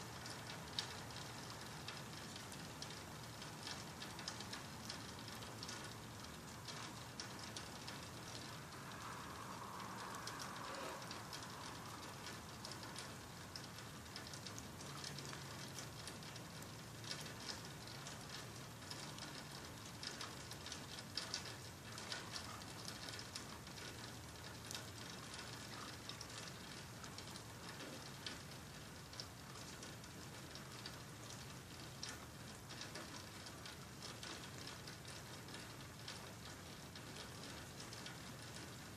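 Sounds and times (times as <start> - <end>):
rain falling: 0.0 - 38.9
raindrops pattering close by: 0.0 - 38.9.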